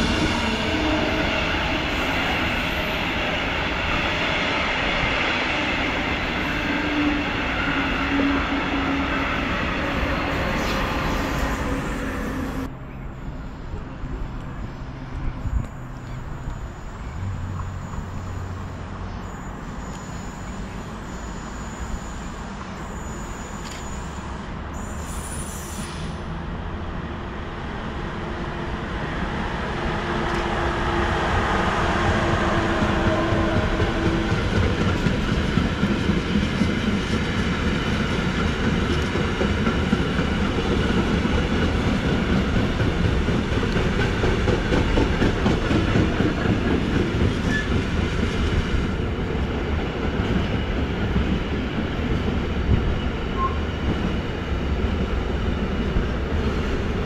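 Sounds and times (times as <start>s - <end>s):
train running past: 0.0s - 57.0s.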